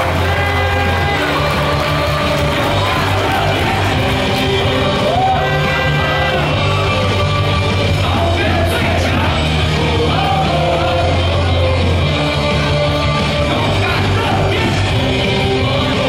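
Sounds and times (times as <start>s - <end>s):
crowd yelling and singing: 0.0s - 16.0s
rock music over loudspeakers: 0.0s - 16.0s.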